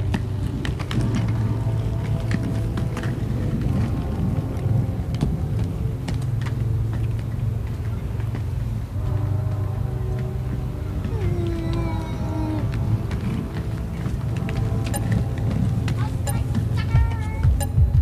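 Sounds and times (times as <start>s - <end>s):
skate wheels rumbling on concrete: 0.0s - 18.0s.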